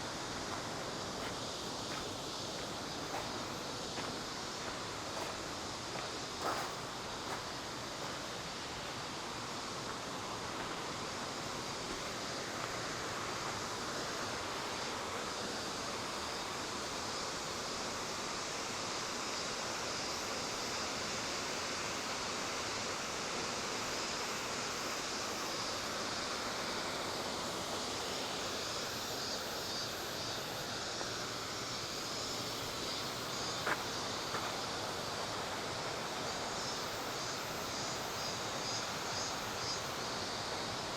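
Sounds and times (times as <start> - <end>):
rushing hiss: 0.0 - 40.9.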